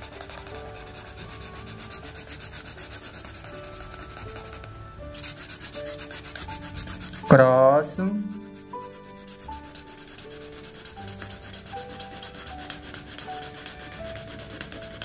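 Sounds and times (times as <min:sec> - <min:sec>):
marker scribbling on paper: 0:00.0 - 0:15.0.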